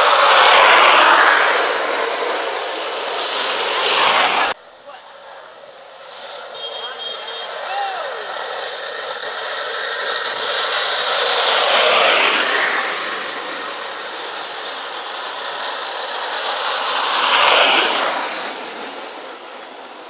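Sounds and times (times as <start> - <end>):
wooden carts rattling on asphalt: 0.0 - 20.0.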